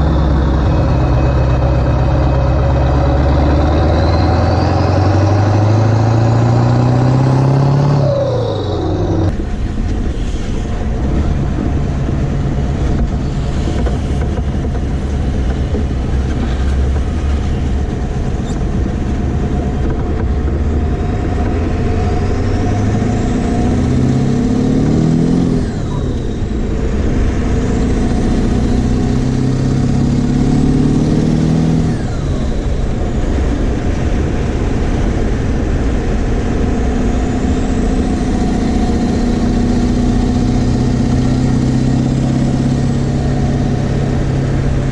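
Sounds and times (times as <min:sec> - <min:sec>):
diesel truck engine accelerating: 0:00.0 - 0:44.9
high turbo whine: 0:00.0 - 0:44.9.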